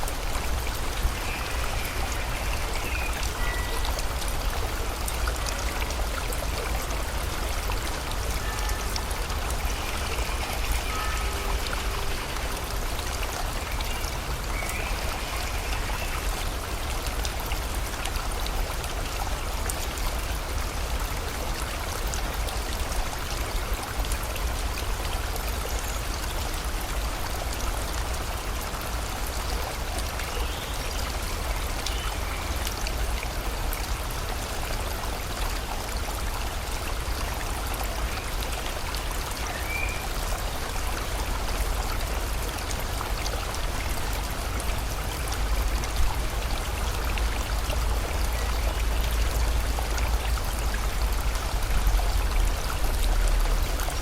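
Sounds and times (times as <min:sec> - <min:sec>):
rain: 0:00.0 - 0:54.0
rushing river: 0:00.0 - 0:54.0.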